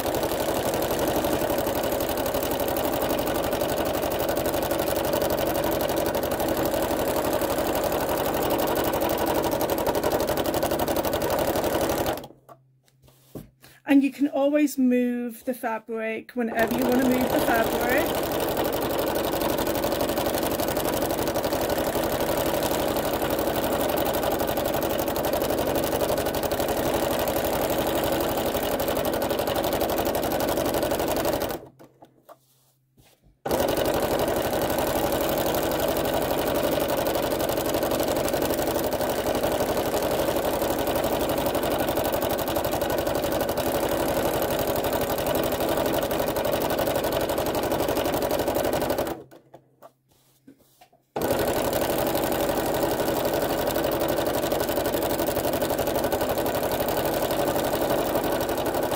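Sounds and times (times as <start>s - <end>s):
sewing machine running: 0.0s - 12.5s, 16.5s - 32.0s, 33.5s - 49.4s, 51.2s - 58.9s.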